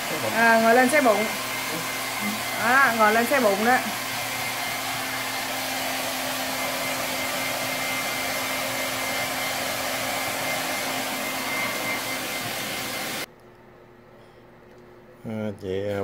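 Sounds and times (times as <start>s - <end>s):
hair dryer blowing: 0.0s - 13.3s.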